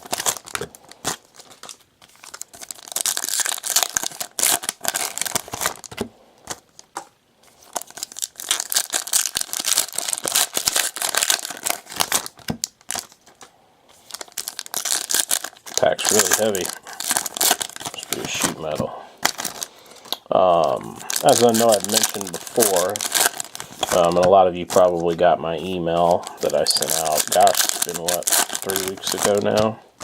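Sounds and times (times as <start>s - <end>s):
foil wrappers crinkling and tearing: 0.0s - 30.0s.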